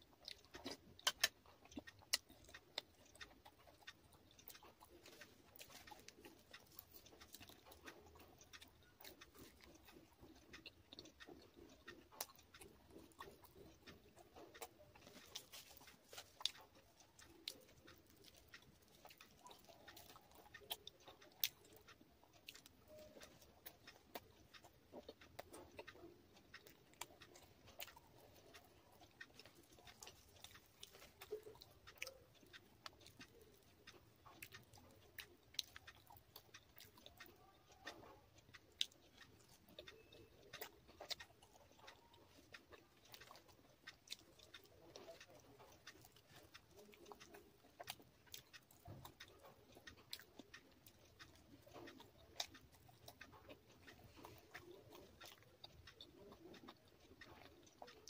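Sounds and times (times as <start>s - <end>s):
close-up chewing with mouth clicks: 0.0s - 58.0s.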